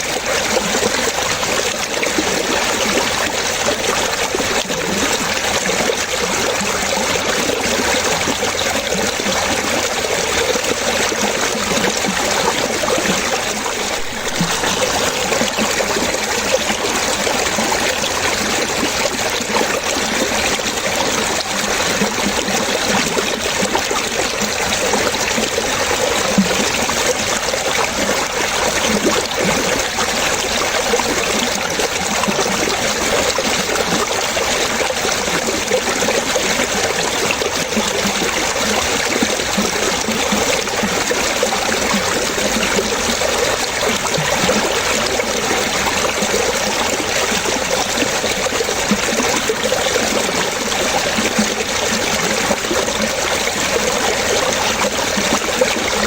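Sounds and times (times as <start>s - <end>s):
water running and splashing: 0.0s - 56.0s.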